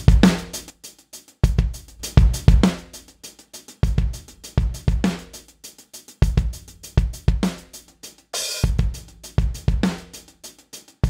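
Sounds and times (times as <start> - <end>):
programmed drum loop: 0.0 - 11.0.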